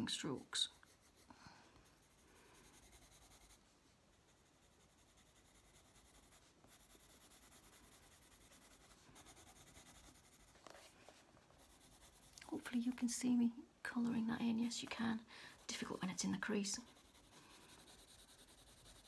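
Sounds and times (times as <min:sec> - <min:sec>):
coloured pencil scratching on paper: 0:00.2 - 0:13.0, 0:14.4 - 0:19.0.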